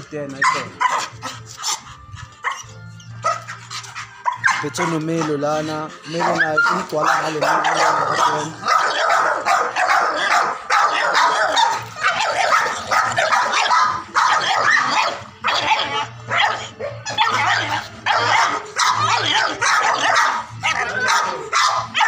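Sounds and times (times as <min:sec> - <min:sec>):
dog barking: 0:00.4 - 0:01.2, 0:02.4 - 0:03.6, 0:04.2 - 0:05.4, 0:06.1 - 0:22.0.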